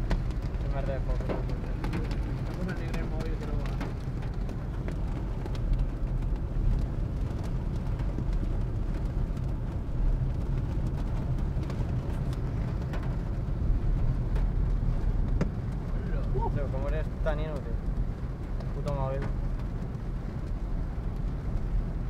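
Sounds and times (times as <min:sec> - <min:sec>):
rain tapping on car roof: 0:00.0 - 0:22.0
road and engine rumble: 0:00.0 - 0:22.0.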